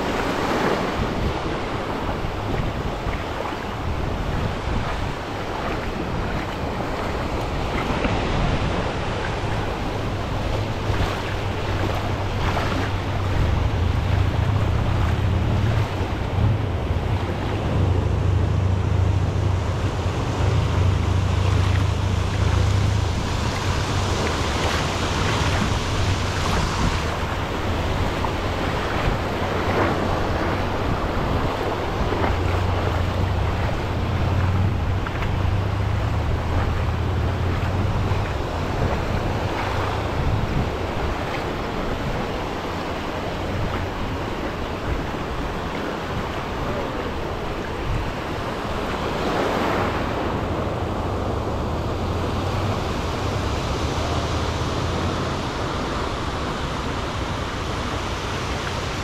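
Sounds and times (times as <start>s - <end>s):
ocean surf breaking: 0.0s - 59.0s
wind buffeting microphone: 0.0s - 59.0s.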